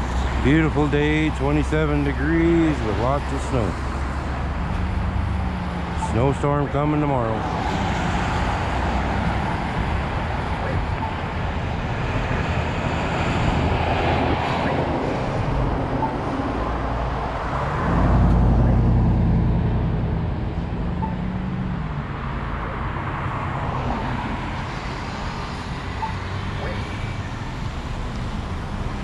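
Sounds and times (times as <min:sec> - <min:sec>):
road rumble: 0:00.0 - 0:29.0
wind: 0:00.0 - 0:29.0.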